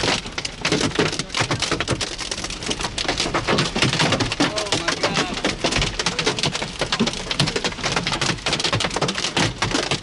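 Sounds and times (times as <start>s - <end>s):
hailstones pounding vehicle roof: 0.0s - 10.0s.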